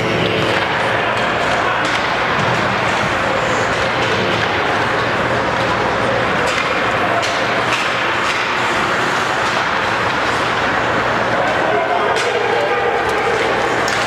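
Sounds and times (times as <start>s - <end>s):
ice rink hum: 0.0s - 14.0s
sticks and skates scraping ice: 0.1s - 14.0s.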